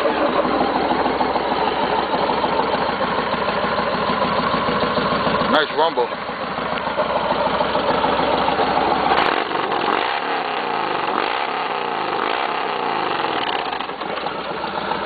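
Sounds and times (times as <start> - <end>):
motorcycle engine idling rumble: 0.0 - 15.0.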